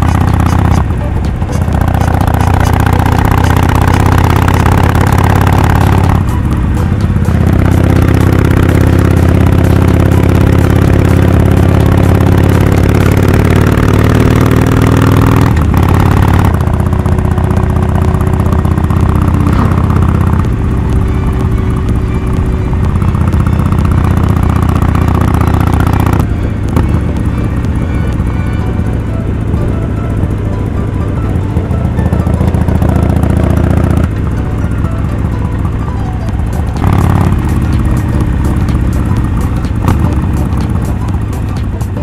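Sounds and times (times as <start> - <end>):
motorcycle engine while riding: 0.0 - 42.0.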